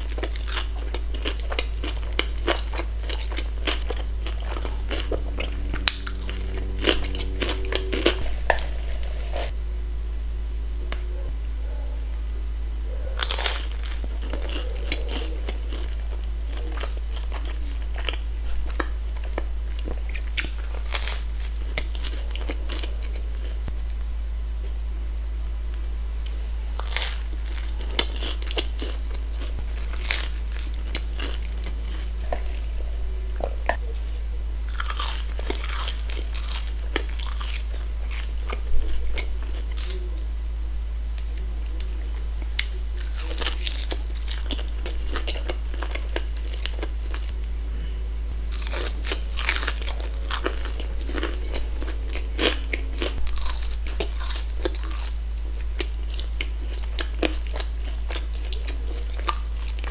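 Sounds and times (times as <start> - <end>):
person chewing crunchy food: 0.0 - 9.6, 12.8 - 24.8, 26.2 - 40.3, 41.2 - 59.9
steady low hum: 0.0 - 59.9.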